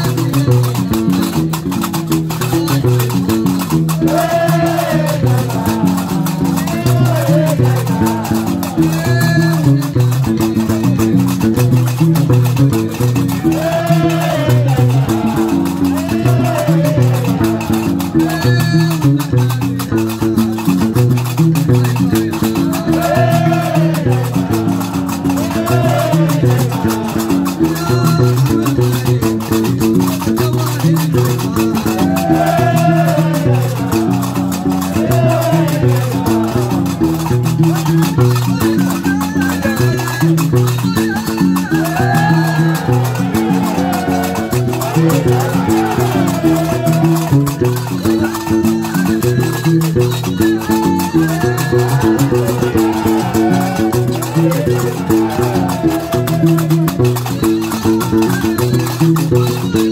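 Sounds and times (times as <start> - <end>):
bass lute low riff: 0.0 - 59.9
iron castanets clacking: 0.0 - 59.9
voices singing short phrases: 2.6 - 11.3, 13.0 - 20.8, 21.9 - 59.9.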